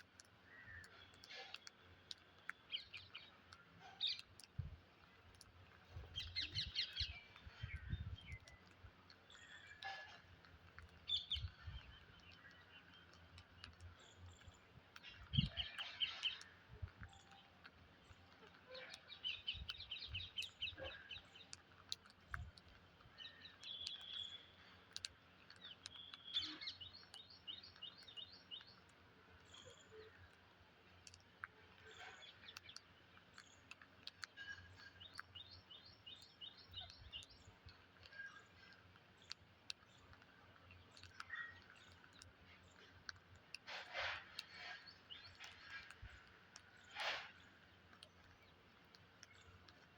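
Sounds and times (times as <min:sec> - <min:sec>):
scattered clicks: 0:00.0 - 0:49.9.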